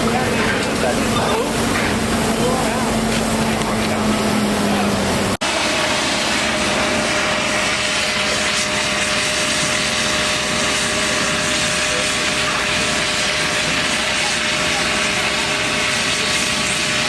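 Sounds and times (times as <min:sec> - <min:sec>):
steady engine-like roar: 0:00.0 - 0:17.0.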